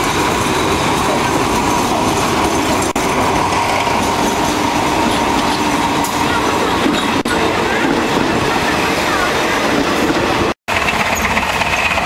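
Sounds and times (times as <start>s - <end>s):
diesel locomotive passing: 0.0s - 12.0s.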